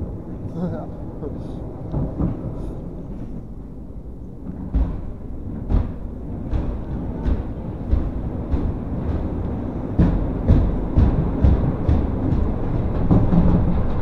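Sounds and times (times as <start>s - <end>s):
ride car rumbling on track: 0.0s - 14.0s
track clacking: 0.0s - 14.0s.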